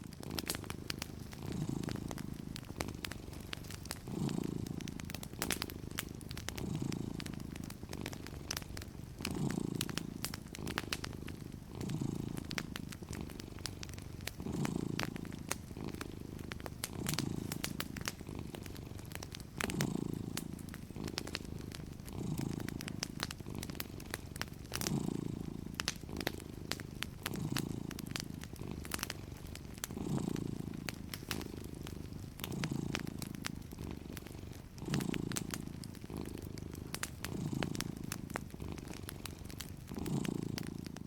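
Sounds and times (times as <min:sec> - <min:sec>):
cat purring: 0:00.0 - 0:41.0
wood fire crackling and popping: 0:00.0 - 0:41.0.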